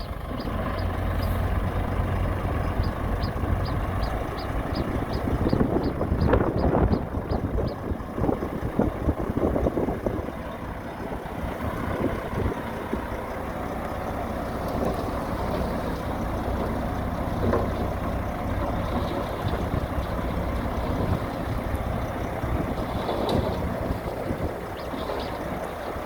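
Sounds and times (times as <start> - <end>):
heavy machine diesel engine running: 0.0 - 26.0.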